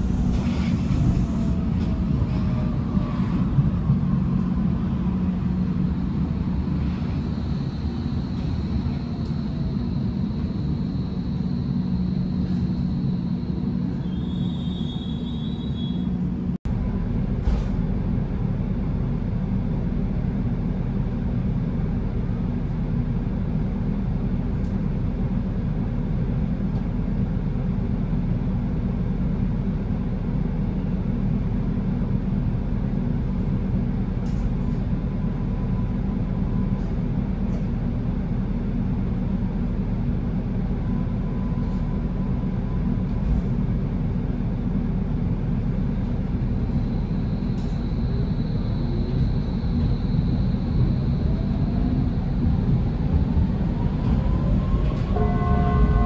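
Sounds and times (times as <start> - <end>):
train running with low rumble: 0.0 - 56.0.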